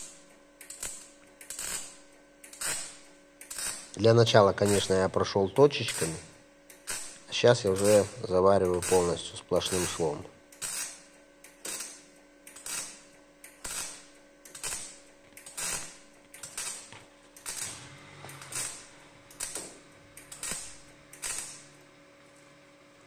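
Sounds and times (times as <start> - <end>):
welding arc crackling: 0.0 - 22.3
steady hum: 0.0 - 23.0.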